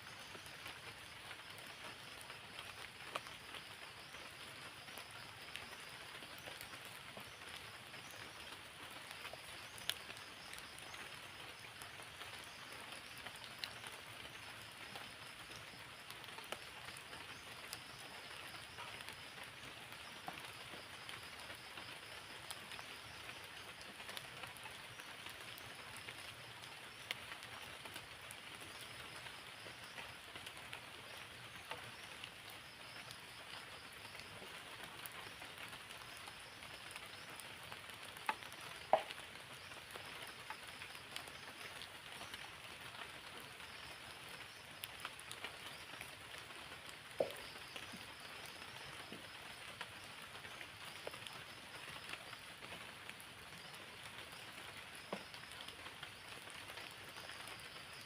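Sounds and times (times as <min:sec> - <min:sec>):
steady rain falling: 0:00.0 - 0:58.0
sharp water drips: 0:00.1 - 0:58.0.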